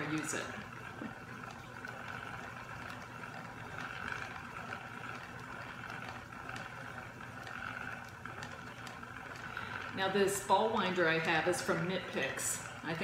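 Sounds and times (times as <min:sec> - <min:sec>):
hand-cranked yarn winder whirring: 0:00.0 - 0:13.0.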